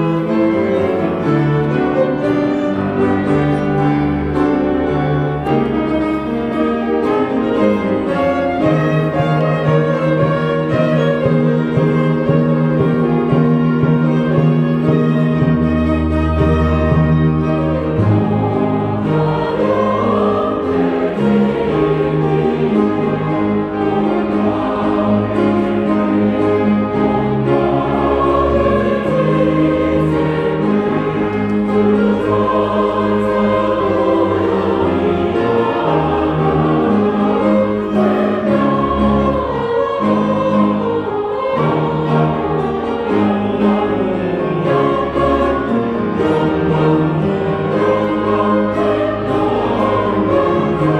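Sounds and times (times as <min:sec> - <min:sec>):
choir singing a carol: 0:00.0 - 0:50.9
string orchestra accompanying: 0:00.0 - 0:50.9.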